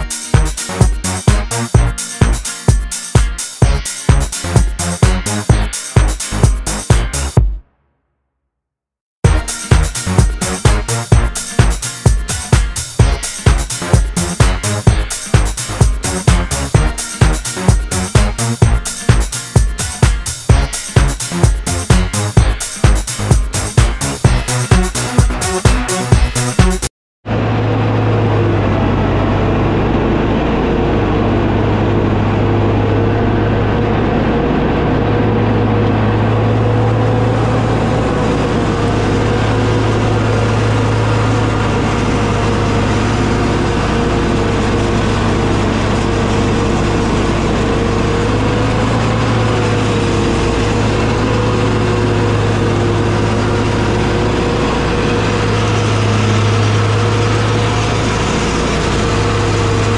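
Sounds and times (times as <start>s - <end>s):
lawn mower engine running: 0.0s - 7.3s, 9.3s - 59.9s.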